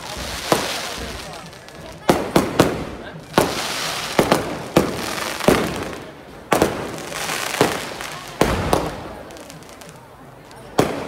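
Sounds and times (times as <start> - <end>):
crackling haze: 0.0 - 11.0
firecrackers banging: 0.0 - 11.0.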